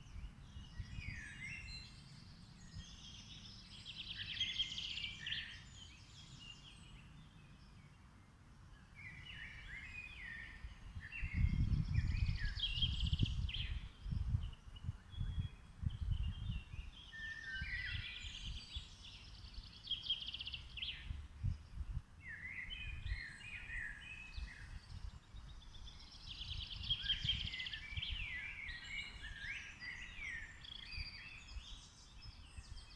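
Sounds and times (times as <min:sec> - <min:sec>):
songbirds singing: 0:00.0 - 0:32.9.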